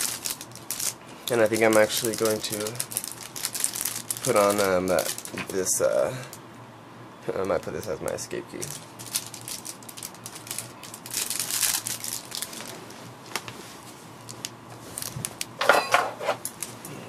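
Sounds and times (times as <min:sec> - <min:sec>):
plastic packaging rustling: 0:00.0 - 0:06.0, 0:07.8 - 0:16.9.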